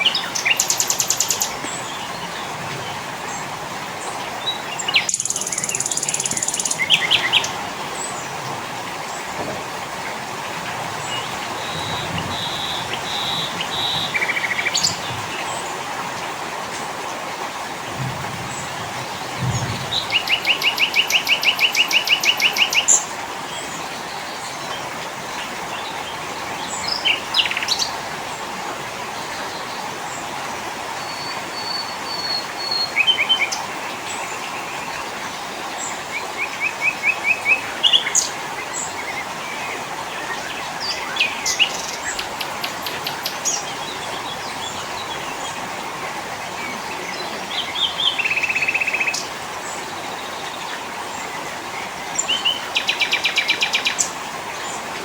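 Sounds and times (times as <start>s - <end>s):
songbirds calling and trilling: 0.0s - 9.4s, 10.0s - 55.0s.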